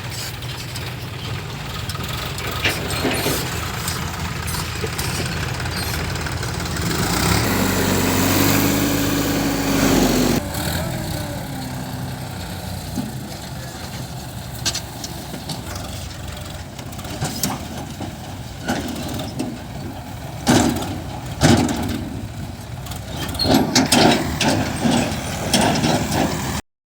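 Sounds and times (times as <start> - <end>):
heavy diesel machinery engine running: 0.0 - 26.6.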